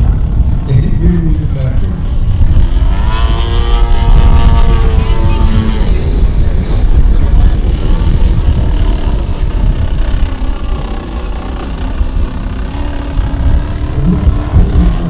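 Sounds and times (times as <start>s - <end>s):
heavy low rumble: 0.0s - 15.0s
model aircraft engine: 0.0s - 15.0s.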